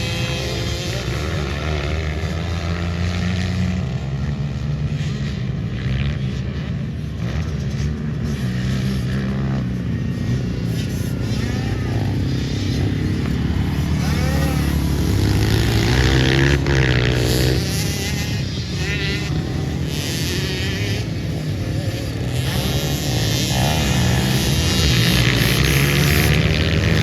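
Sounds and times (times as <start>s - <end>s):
pit bike engines revving: 0.0s - 27.0s.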